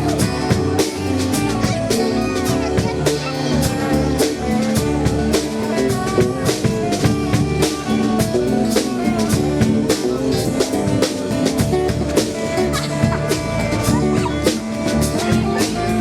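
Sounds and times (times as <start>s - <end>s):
drum kit beat: 0.0s - 16.0s
live band playing: 0.0s - 16.0s.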